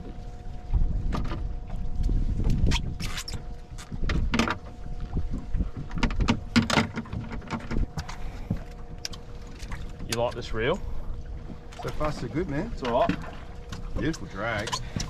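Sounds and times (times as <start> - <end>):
faint steady hum: 0.0 - 15.0
low rumble: 0.0 - 15.0
gear knocking and clicking on boat: 0.8 - 15.0.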